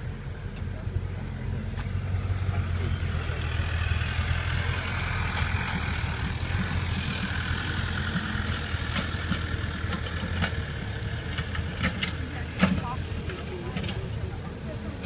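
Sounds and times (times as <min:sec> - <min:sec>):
vehicle hum with road noise: 0:00.0 - 0:15.0.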